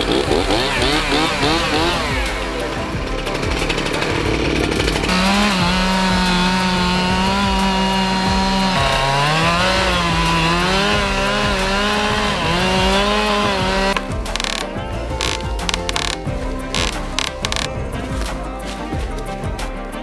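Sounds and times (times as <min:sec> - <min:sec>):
chainsaw cutting through tree: 0:00.0 - 0:20.0.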